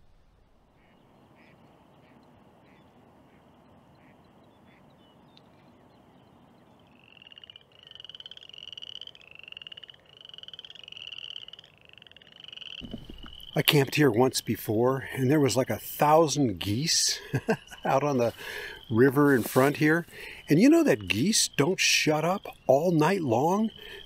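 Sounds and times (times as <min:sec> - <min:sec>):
frogs trilling: 0:00.8 - 0:24.0.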